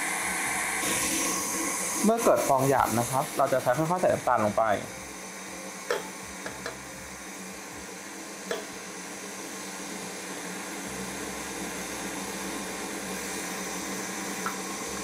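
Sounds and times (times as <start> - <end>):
stand mixer whisking: 0.0 - 15.0.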